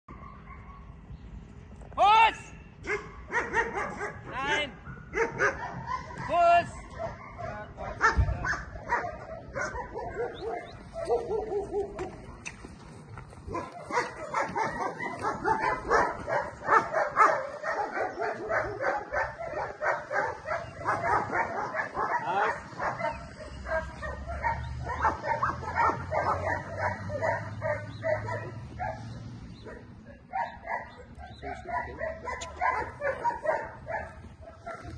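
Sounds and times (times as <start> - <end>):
dog barking: 0.1 - 1.0, 2.8 - 12.4, 13.5 - 34.9.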